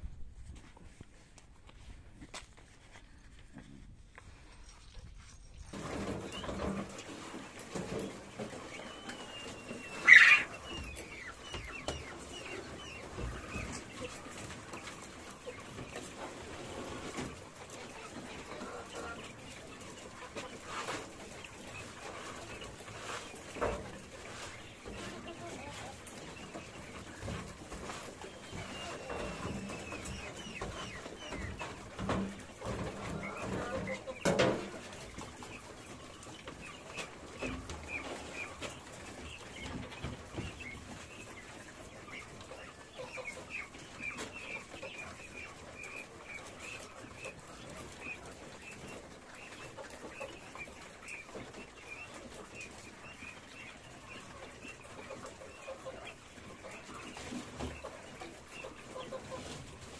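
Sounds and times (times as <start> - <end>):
quail chirping: 5.8 - 59.9.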